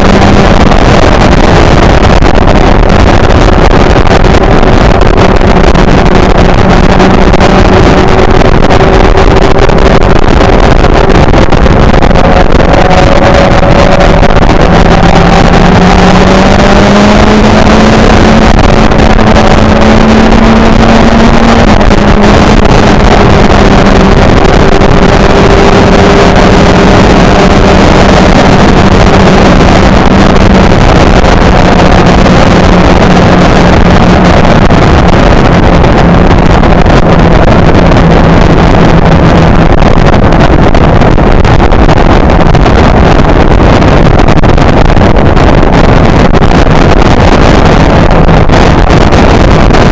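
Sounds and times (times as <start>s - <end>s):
motorcycle engine running: 0.0s - 49.9s
wind rush over microphone: 0.0s - 49.9s.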